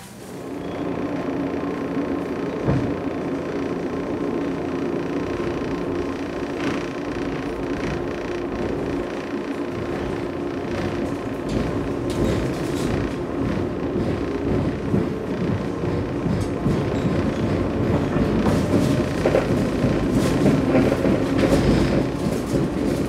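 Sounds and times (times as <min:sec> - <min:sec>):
train running noise: 0:00.0 - 0:23.0
train clunk: 0:02.2 - 0:03.4, 0:05.2 - 0:23.0.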